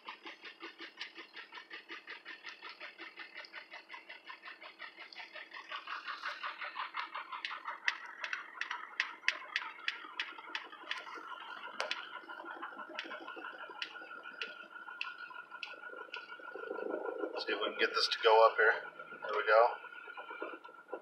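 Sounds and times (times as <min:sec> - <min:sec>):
diesel engine idling roughly: 0:00.0 - 0:21.0
sharp engine ticks: 0:00.0 - 0:21.0.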